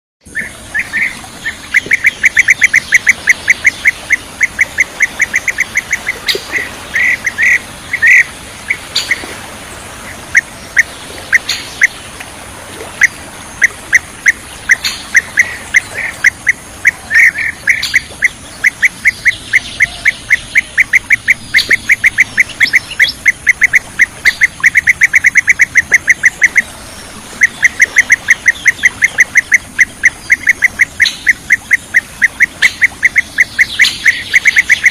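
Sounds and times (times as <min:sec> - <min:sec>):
bird calling rapid high calls: 0:00.3 - 0:09.4, 0:10.0 - 0:12.2, 0:13.0 - 0:34.9.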